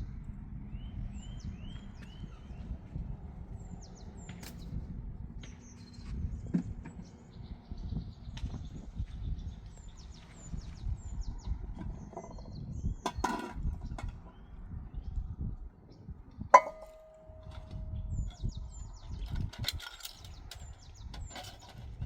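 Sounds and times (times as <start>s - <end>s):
low outdoor rumble: 0.0s - 22.0s
small birds chirping: 0.0s - 22.0s.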